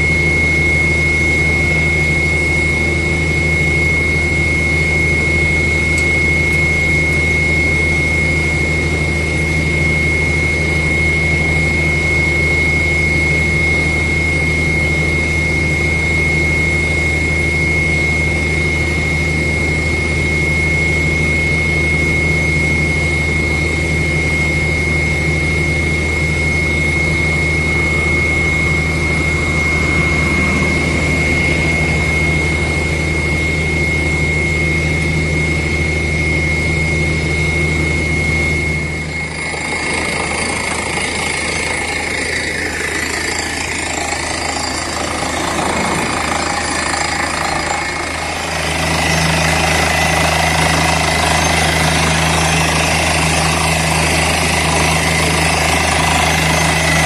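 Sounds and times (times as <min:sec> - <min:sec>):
drilling rig engine drone: 0:00.0 - 0:57.0
high whine: 0:00.0 - 0:57.0.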